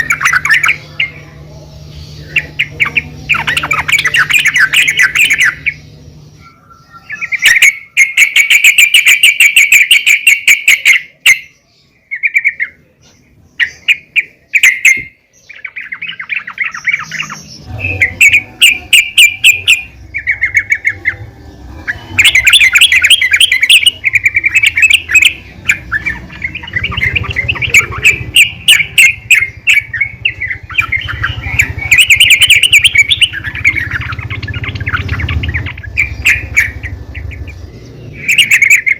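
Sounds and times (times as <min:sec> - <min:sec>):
bird chattering trills: 0:00.0 - 0:38.9.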